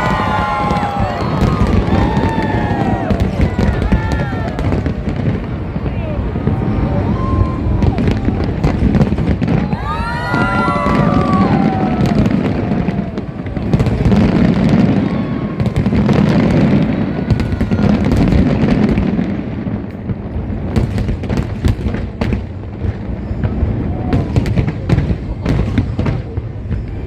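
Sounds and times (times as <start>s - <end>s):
fireworks booming: 0.0s - 27.0s
fireworks cracks and crackles: 0.0s - 27.0s.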